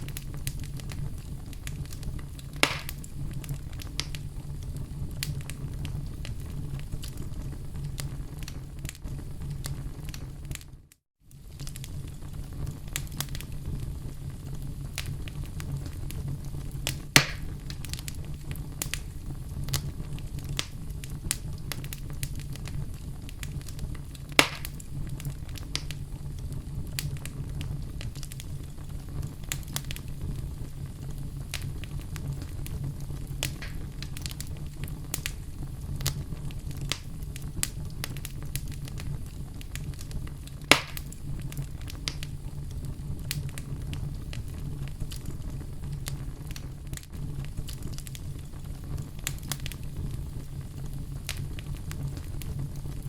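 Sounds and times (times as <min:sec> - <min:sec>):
burning logs popping: 0:00.0 - 0:53.0
wood fire crackling: 0:00.0 - 0:53.0.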